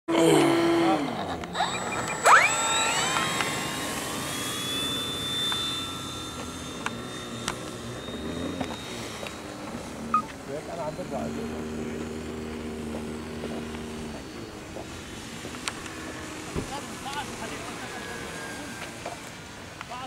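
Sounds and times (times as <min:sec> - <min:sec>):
model jet whine: 0:00.1 - 0:20.0.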